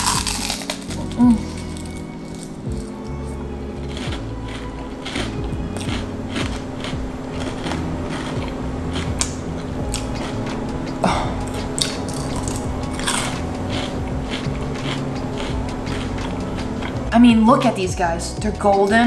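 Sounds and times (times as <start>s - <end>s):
crunching and chewing fried food: 0.0s - 17.1s.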